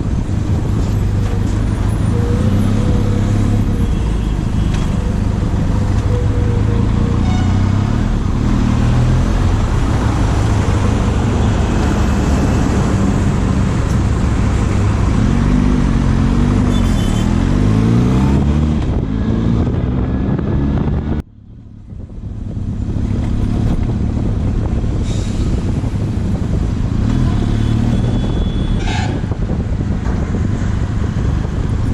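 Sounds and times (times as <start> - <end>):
wind noise on microphone: 0.0 - 31.9.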